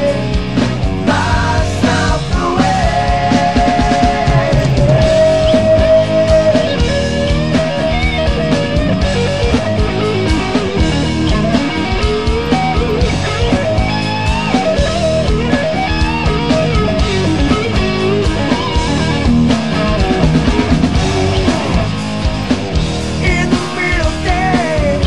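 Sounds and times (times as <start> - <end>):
melodic guitar lead: 0.0 - 25.0
rock band playing: 0.0 - 25.0.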